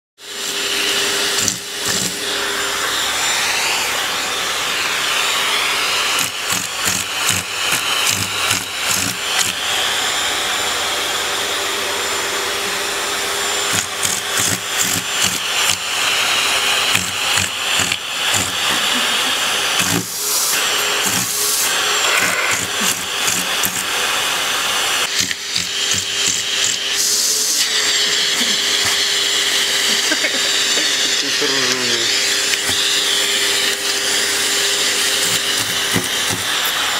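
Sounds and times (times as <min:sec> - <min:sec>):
vacuum cleaner running: 0:00.2 - 0:36.9.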